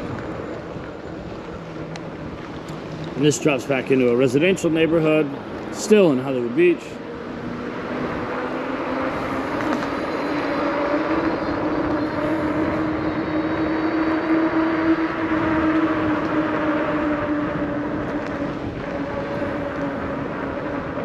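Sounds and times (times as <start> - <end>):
wind and tyre noise: 0.0 - 21.0
droning hum: 4.0 - 21.0.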